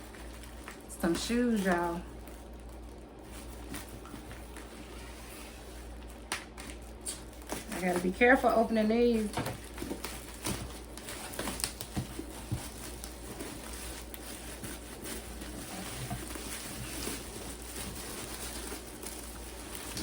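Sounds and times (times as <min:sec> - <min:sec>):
packaging rustling: 0:00.0 - 0:20.0.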